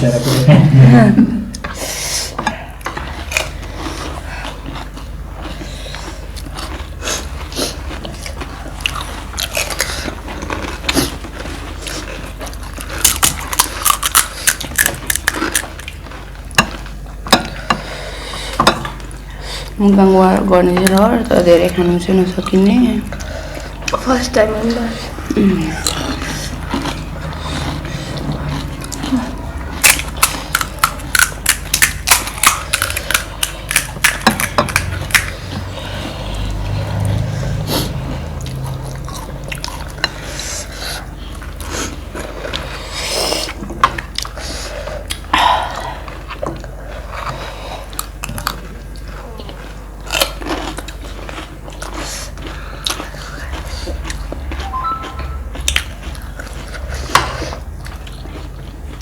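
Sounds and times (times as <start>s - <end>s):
crunching and chewing snacks: 2.7s - 19.8s, 21.7s - 59.0s.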